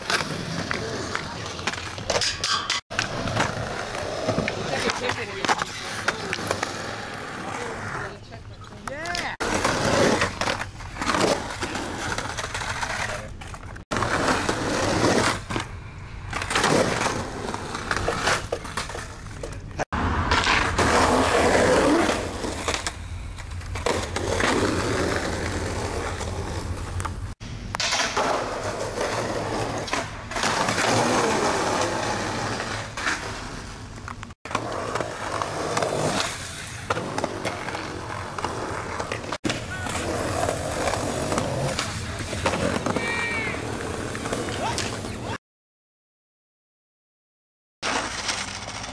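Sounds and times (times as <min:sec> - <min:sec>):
skateboard wheels rolling on concrete: 0:00.0 - 0:45.4, 0:47.8 - 0:48.9.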